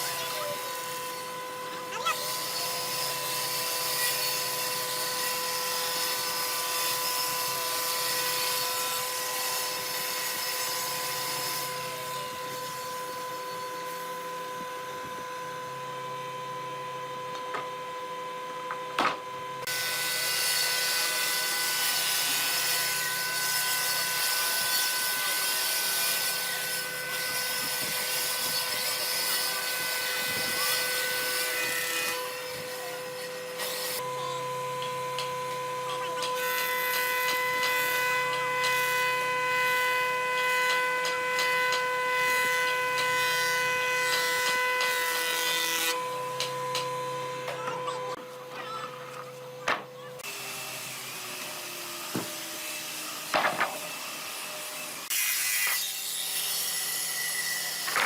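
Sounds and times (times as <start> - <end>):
power tool whining on wood: 0.0 - 58.0.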